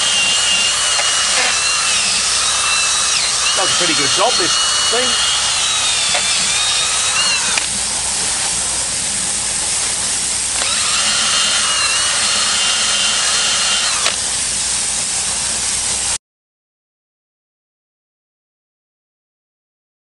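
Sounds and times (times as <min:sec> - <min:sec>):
cordless drill motor whine: 0:00.0 - 0:16.2
garden hose spraying water: 0:00.0 - 0:16.2.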